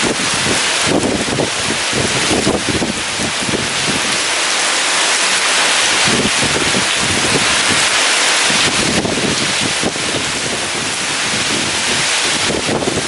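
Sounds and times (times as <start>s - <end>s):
gusting wind: 0.0s - 13.0s
heavy rain hissing: 0.0s - 13.0s.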